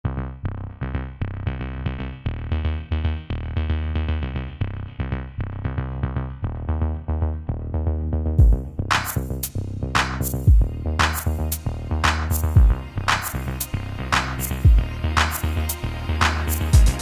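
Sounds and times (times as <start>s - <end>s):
deep steady bass: 0.0s - 17.0s
repeated pitched notes: 0.3s - 17.0s.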